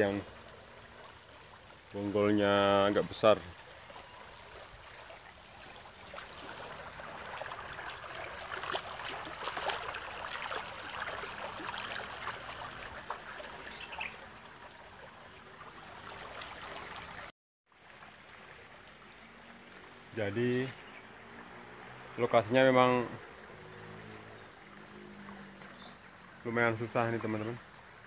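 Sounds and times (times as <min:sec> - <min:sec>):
river water running over riffle: 0:00.0 - 0:28.0.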